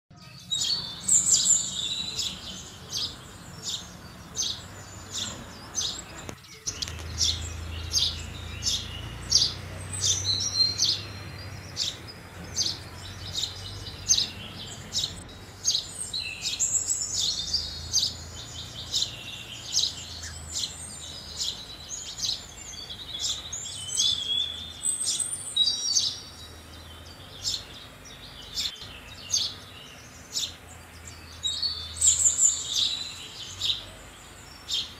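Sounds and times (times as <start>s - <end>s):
sparrow chirping: 0.1s - 34.9s.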